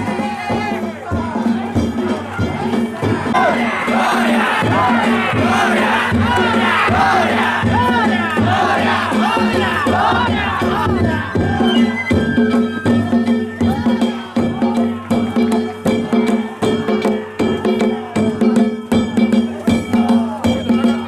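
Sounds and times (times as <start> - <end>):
taiko drums: 0.0 - 21.0.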